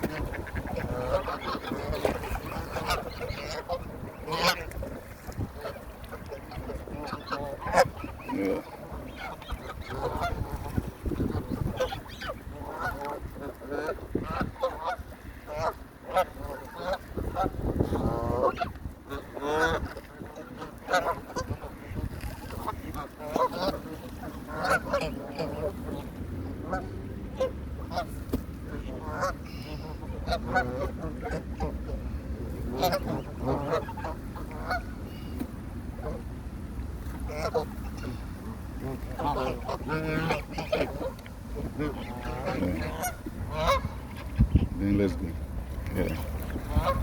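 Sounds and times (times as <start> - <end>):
geese honking: 0.0 - 28.1, 28.7 - 32.0, 32.6 - 35.0, 37.2 - 45.2, 46.0 - 47.0.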